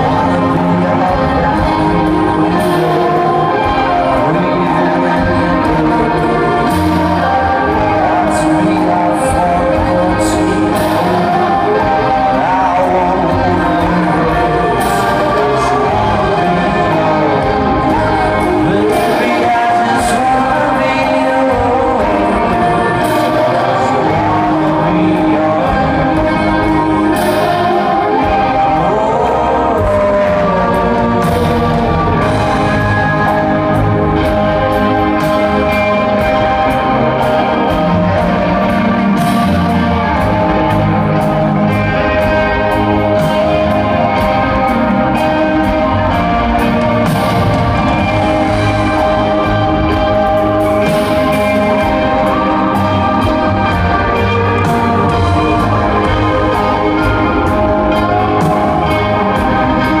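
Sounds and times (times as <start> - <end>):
rock band playing live: 0.0 - 60.0.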